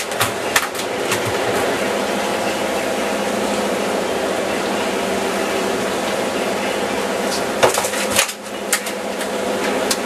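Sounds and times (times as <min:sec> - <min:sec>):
boat engine hum: 0:00.0 - 0:10.0.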